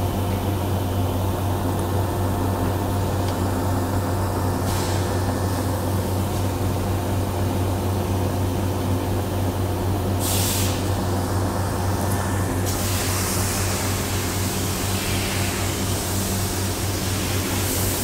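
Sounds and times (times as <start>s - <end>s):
factory machinery hum: 0.0s - 18.0s.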